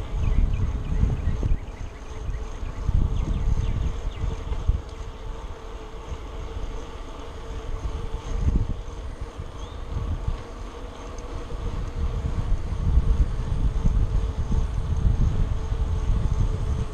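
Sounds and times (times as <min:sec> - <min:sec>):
bicycle rumble: 0:00.0 - 0:16.9
faint steady hum: 0:00.0 - 0:16.9
wind buffeting microphone: 0:00.0 - 0:16.9.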